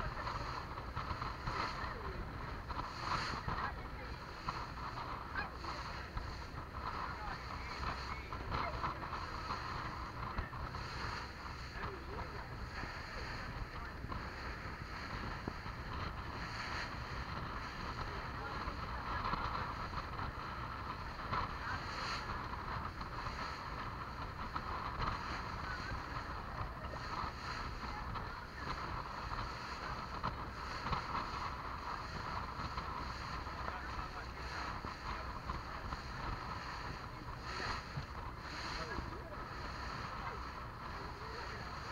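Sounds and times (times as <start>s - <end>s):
motorboat engine rumble: 0.0s - 41.9s
water slapping along hull: 0.0s - 41.9s
wind on microphone: 0.0s - 41.9s.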